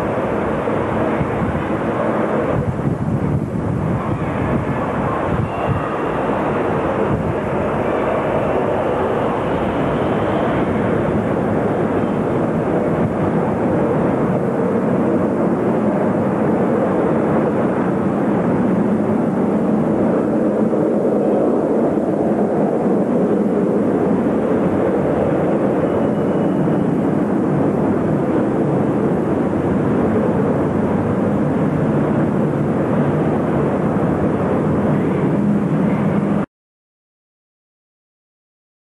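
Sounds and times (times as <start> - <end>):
jet engines roaring: 0.0 - 36.5.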